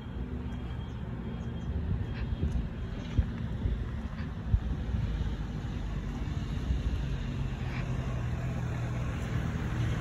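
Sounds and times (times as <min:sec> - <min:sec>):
engine hum: 0:00.0 - 0:10.0
wind rumble on microphone: 0:00.0 - 0:10.0.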